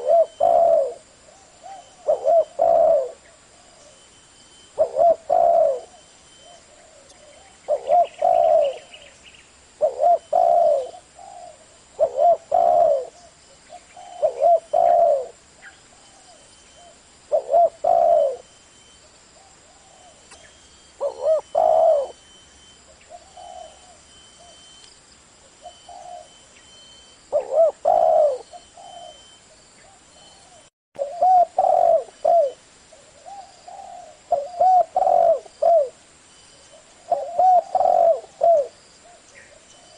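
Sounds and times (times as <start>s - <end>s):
dove cooing: 0.0s - 4.1s, 4.7s - 9.1s, 9.8s - 18.5s, 19.4s - 24.8s, 25.5s - 26.4s, 27.3s - 36.0s, 36.6s - 39.9s.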